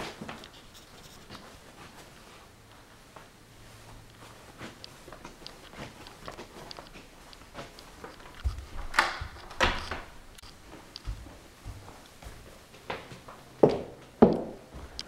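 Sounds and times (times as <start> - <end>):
footsteps on carpeted stairs: 0.2 - 15.0.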